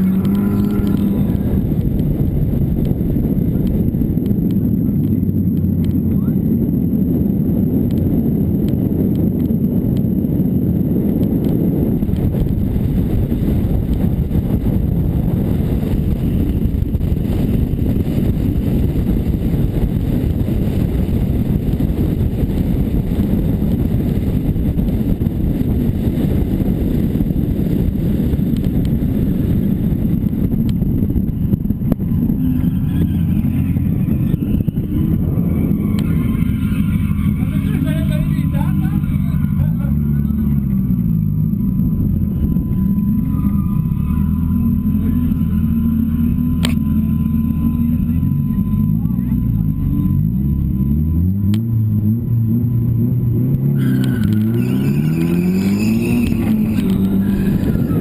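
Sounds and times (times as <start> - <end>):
car engine running hard: 0.0 - 58.0
wind noise: 0.0 - 58.0.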